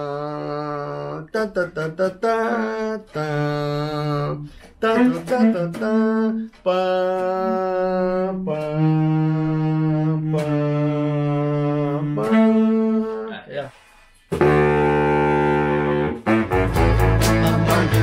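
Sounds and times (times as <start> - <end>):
man singing low notes: 0.0 - 13.5, 16.6 - 18.0.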